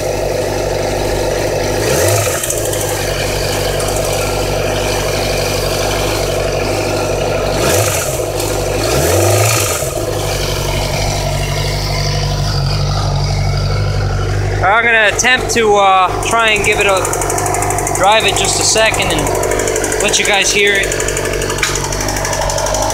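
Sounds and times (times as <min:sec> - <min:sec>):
engine revving: 0:00.0 - 0:22.9
motorcycle engine idling: 0:00.0 - 0:22.9.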